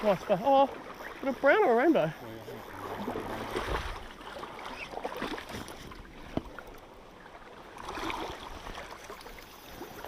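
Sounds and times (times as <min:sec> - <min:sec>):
river water sloshing and gurgling: 0:00.0 - 0:10.0.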